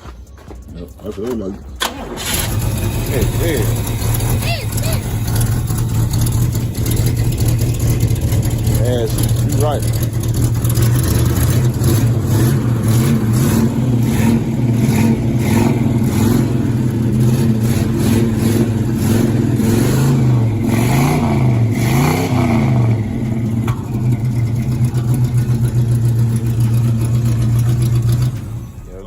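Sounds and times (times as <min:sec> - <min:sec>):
car engine idling and revving: 0:01.3 - 0:29.0.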